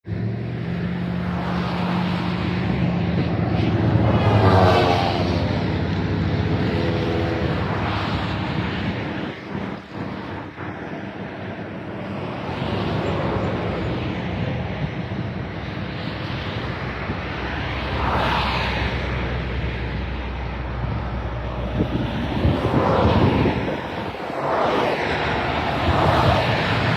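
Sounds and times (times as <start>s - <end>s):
jet engines roaring: 0.0s - 26.9s.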